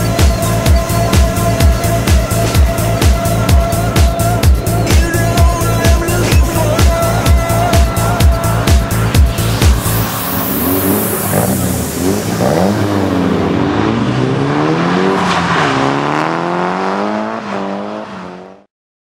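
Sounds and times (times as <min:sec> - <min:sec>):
tyre and road noise: 0:00.0 - 0:18.6
car engine revving: 0:00.0 - 0:18.7.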